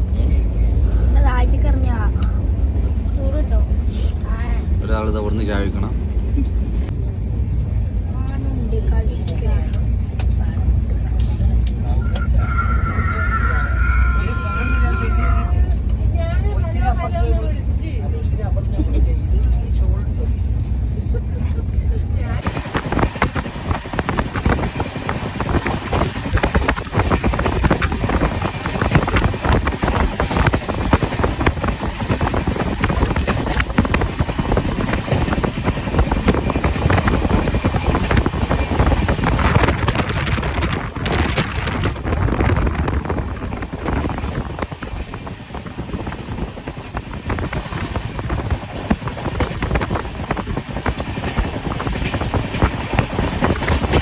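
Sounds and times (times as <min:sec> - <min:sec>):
train rumbling on track: 0:00.0 - 0:54.0.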